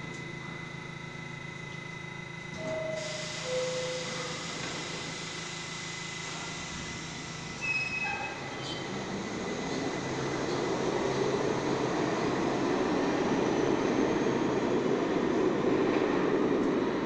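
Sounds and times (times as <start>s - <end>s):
subway train equipment humming: 0.0s - 17.0s.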